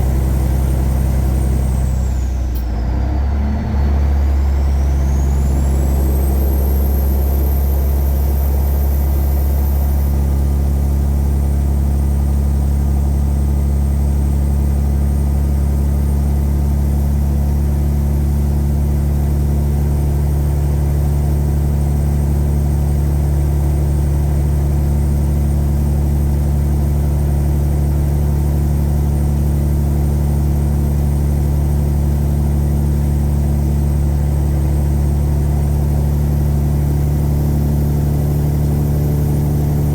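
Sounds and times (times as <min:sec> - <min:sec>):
diesel truck engine drone: 0:00.0 - 0:39.9.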